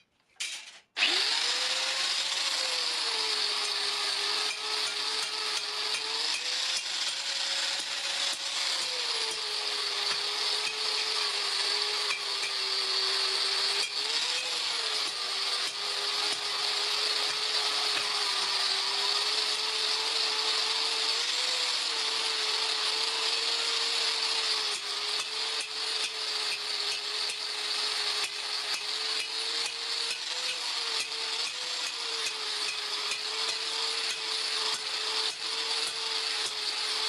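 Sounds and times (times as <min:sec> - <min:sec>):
electric grinder grinding steel: 0:00.9 - 0:37.0.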